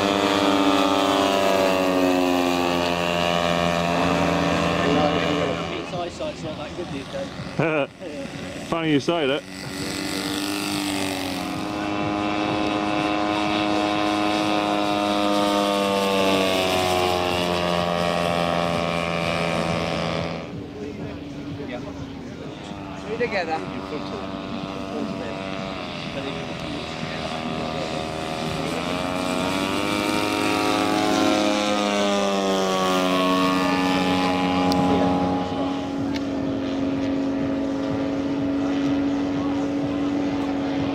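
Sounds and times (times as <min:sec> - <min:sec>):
model aeroplane engine and propeller: 0:00.0 - 0:40.9.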